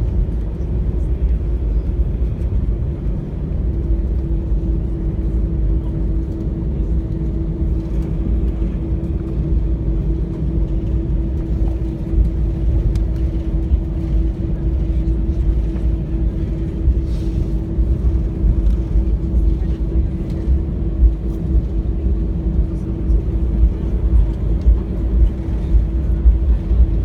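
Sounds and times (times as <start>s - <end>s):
airliner cabin rumble and drone: 0.0s - 27.0s.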